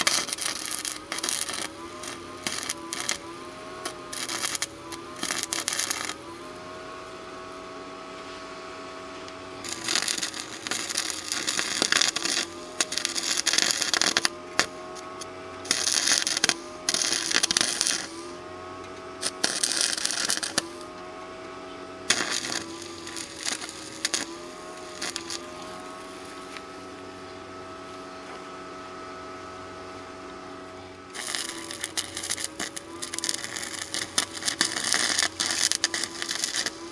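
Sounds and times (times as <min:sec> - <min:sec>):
welding arc crackling: 0:00.0 - 0:08.1, 0:09.0 - 0:36.9
welder electrical whine: 0:00.0 - 0:36.9.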